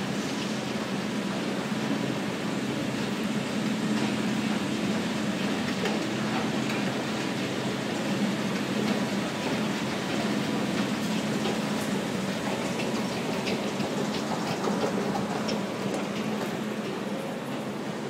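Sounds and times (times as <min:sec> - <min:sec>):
escalator steps clicking: 0:03.0 - 0:18.0.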